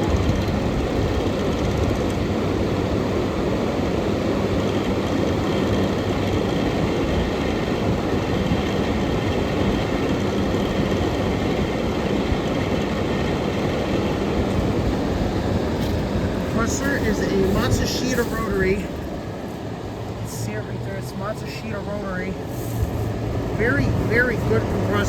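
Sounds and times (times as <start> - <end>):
air conditioner fan blowing: 0.0 - 25.0.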